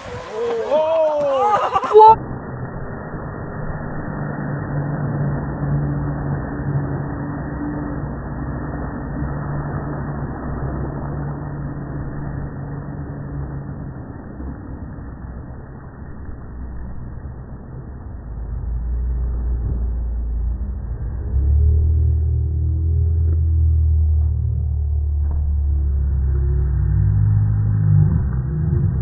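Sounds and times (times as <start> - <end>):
deep low rumble: 0.0 - 29.0
rc speedboat motor drone: 0.0 - 29.0.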